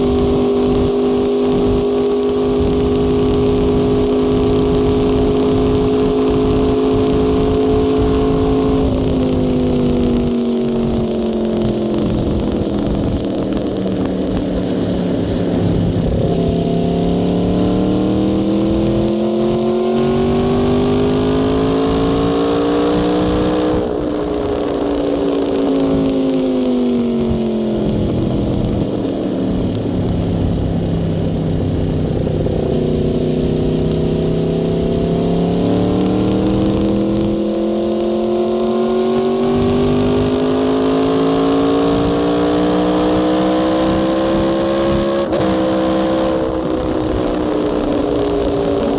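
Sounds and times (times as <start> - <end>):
motorcycle engine under load: 0.0 - 48.9.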